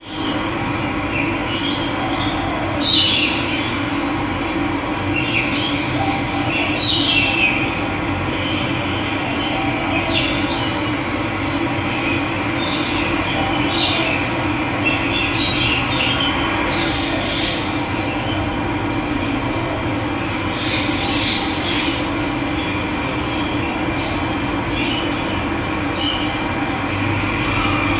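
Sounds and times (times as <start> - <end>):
birds calling: 0.0 - 27.9.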